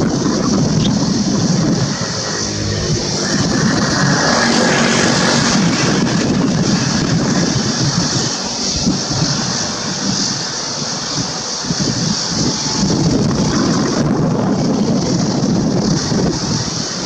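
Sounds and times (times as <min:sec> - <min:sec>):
aircraft engine noise: 0:00.0 - 0:17.0
wind buffeting microphone: 0:00.0 - 0:17.0.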